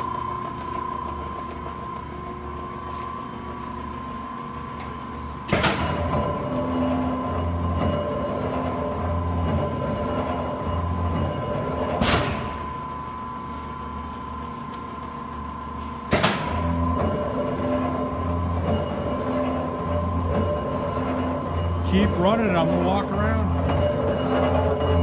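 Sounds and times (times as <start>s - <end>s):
press brake whine and drone: 0.0s - 25.0s.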